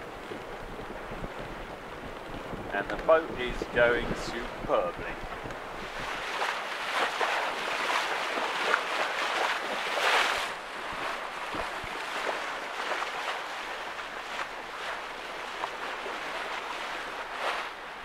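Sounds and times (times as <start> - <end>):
water rushing along a hull: 0.0 - 18.0
wind: 0.0 - 18.0.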